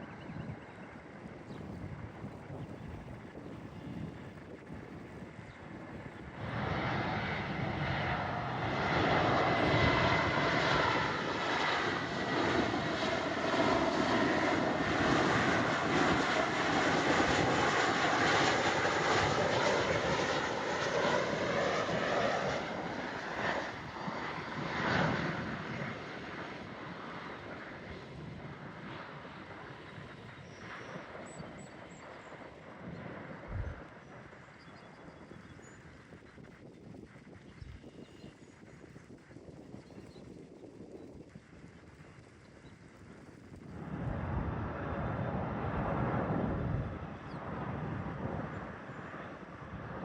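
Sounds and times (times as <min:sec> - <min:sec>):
jet aircraft passing: 0:00.0 - 0:36.2, 0:41.4 - 0:50.0.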